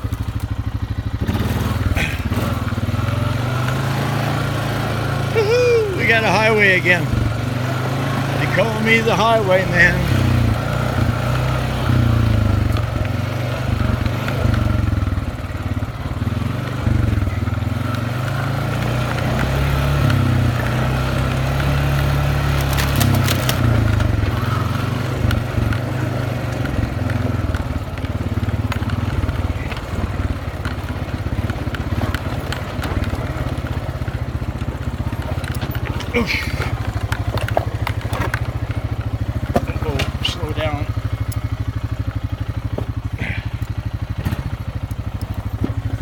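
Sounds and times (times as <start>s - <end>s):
atv engine running: 0.0s - 46.0s.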